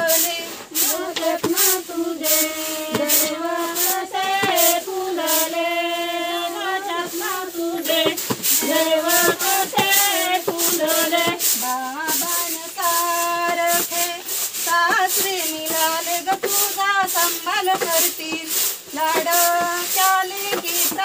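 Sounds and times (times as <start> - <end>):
folk song high sung melody: 0.0 - 21.0
shaker beat: 0.0 - 21.0.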